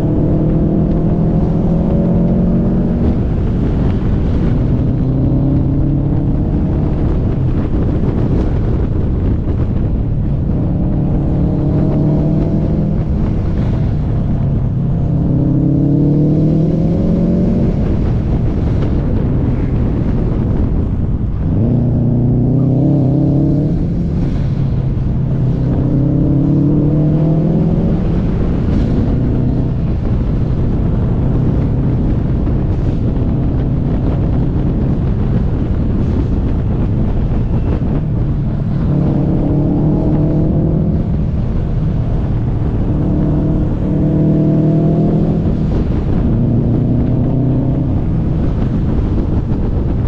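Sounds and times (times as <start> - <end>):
car engine pulling hard: 0.0 - 50.0
road and wind rumble: 0.0 - 50.0.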